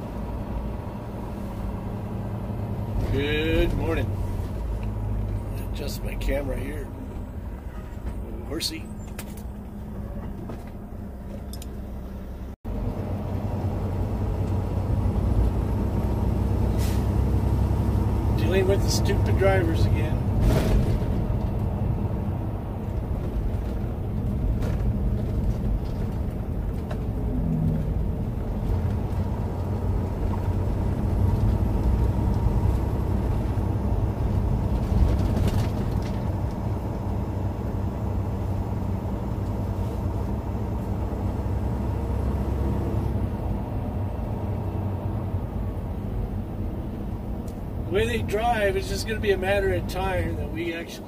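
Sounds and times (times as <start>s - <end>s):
diesel truck engine droning: 0.0s - 51.0s
road and tyre noise: 0.0s - 51.0s.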